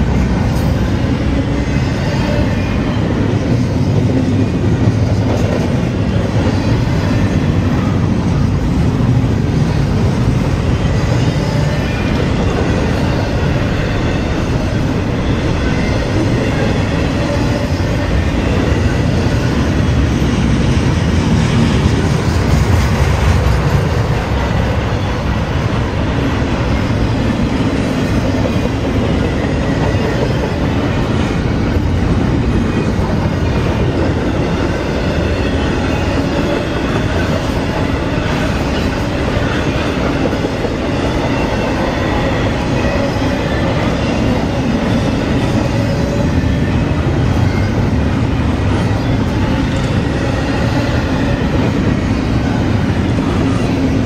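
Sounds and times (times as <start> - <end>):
train wheels running on rails: 0.0 - 54.0.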